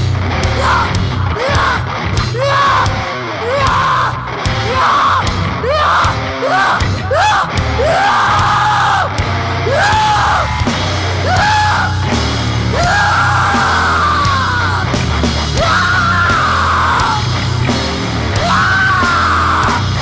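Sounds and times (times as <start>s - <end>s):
distorted guitar and bass: 0.0s - 20.0s
harsh yelled vocals: 0.0s - 20.0s.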